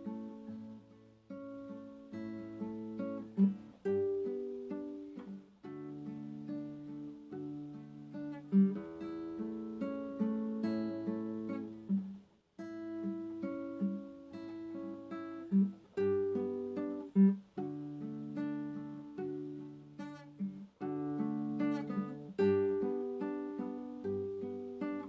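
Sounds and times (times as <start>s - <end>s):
gentle acoustic guitar: 0.0s - 25.0s.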